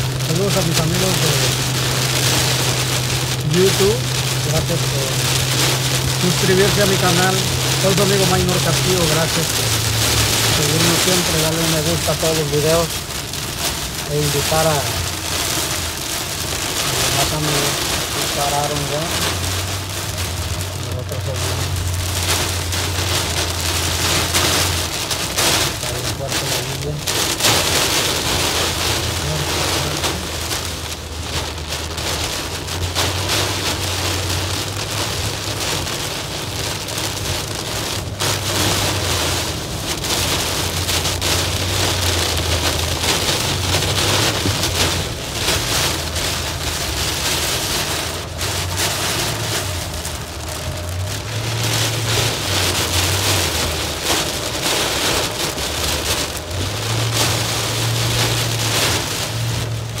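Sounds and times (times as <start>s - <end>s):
heavy rain on car windshield: 0.0s - 60.0s
vehicle hum: 0.0s - 60.0s.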